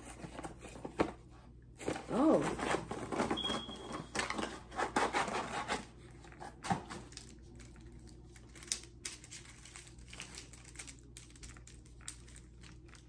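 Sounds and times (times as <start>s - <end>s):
paper packaging rustling: 0.0s - 13.0s.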